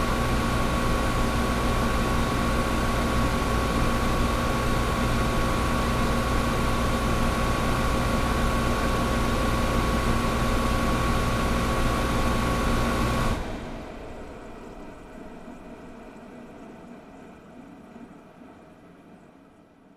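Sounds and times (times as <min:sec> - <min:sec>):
air conditioner hum and whine: 0:00.0 - 0:19.9.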